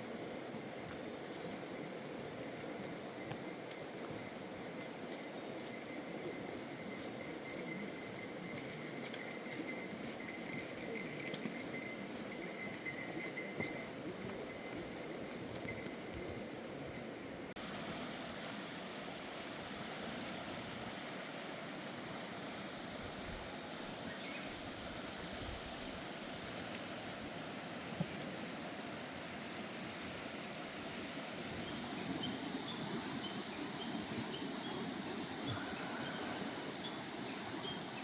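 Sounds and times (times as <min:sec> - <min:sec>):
river flowing: 0:00.0 - 0:38.0.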